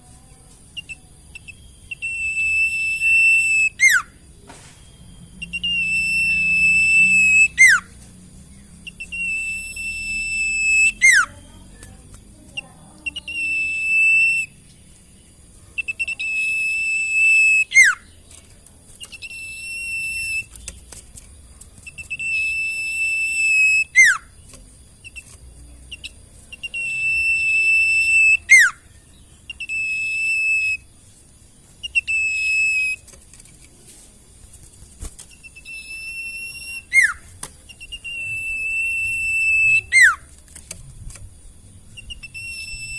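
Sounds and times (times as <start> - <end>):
bird whistling song: 0.7 - 21.0, 21.8 - 33.2, 35.1 - 40.4, 41.9 - 42.9.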